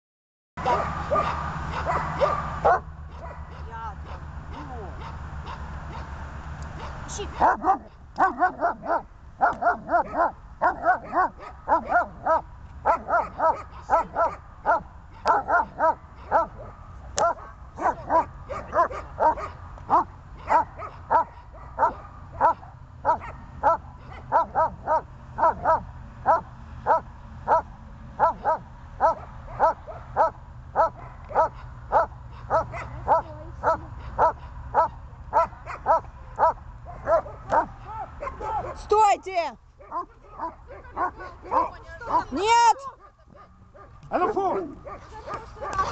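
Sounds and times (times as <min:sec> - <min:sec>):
dog barking: 0:00.6 - 0:06.1, 0:06.8 - 0:38.8, 0:39.8 - 0:45.9.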